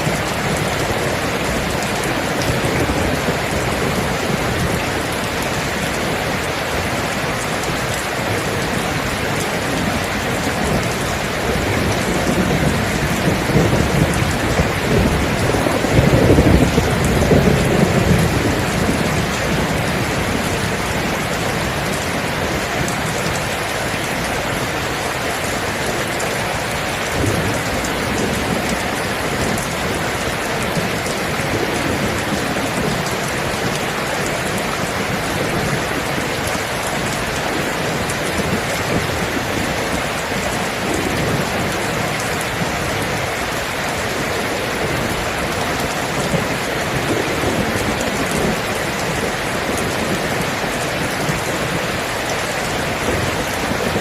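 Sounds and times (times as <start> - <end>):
rolling thunder: 0.0 - 52.2
heavy rain falling: 0.0 - 54.0.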